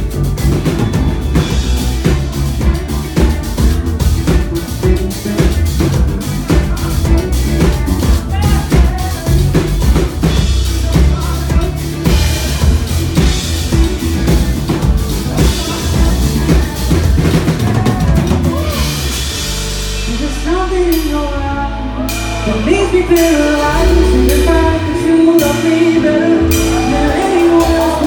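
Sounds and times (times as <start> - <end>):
drum kit beat: 0.0 - 28.0
live pop band playing: 0.0 - 28.0.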